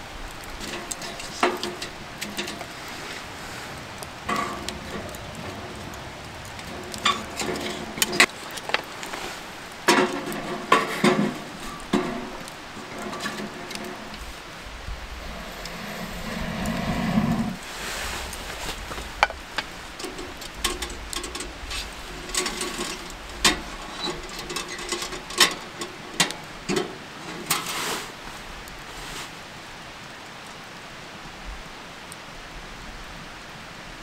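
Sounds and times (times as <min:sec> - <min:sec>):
campfire crackling and popping: 0:00.0 - 0:29.4.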